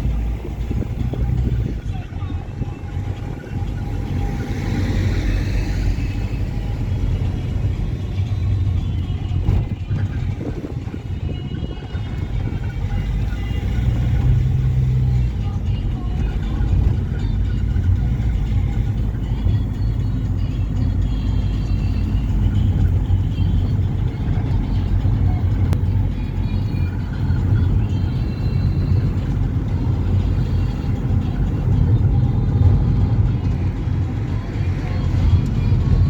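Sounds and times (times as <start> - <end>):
road vehicle rumble: 0.0 - 36.0.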